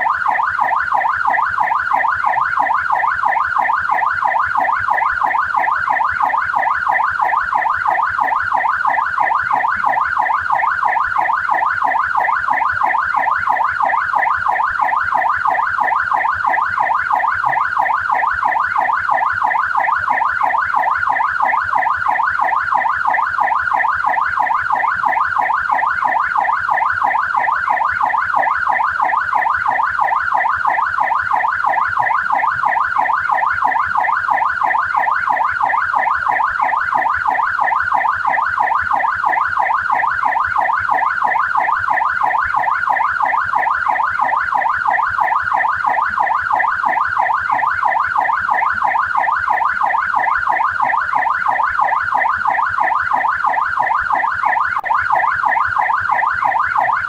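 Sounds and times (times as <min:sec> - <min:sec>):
police siren yelping: 0:00.0 - 0:57.0.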